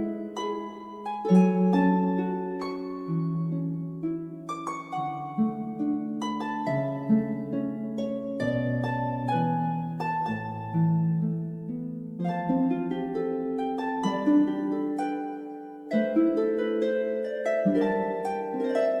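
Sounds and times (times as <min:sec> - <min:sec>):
plucked harp-like melody: 0:00.0 - 0:19.0.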